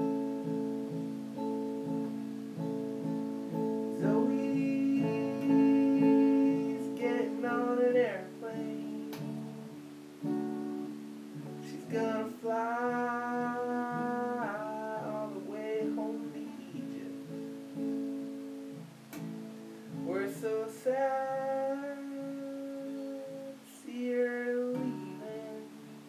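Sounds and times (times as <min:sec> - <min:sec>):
person singing long notes: 0:00.0 - 0:18.4, 0:19.9 - 0:26.0
acoustic guitar strumming: 0:00.0 - 0:26.0.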